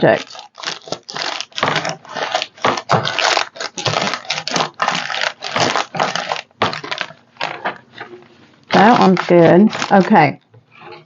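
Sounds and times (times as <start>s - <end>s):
paper napkin crinkling: 0.0s - 10.4s.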